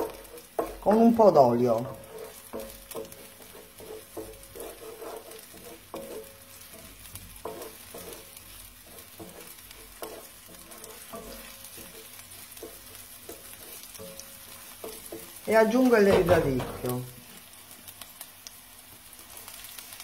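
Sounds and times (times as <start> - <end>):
utensil scraping pan: 0.0 - 17.0
onion sizzling in oil: 0.0 - 20.0.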